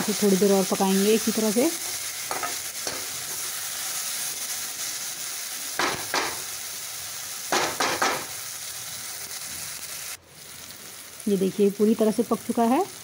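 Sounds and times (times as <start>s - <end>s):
onion and tomato sizzling in oil: 0.0s - 13.0s.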